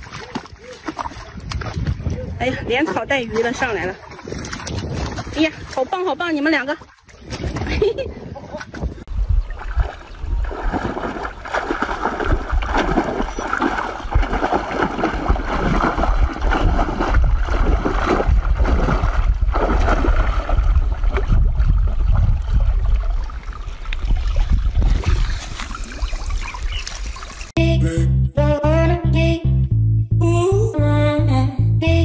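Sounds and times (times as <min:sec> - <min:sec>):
muddy water splashing: 0:00.0 - 0:27.6.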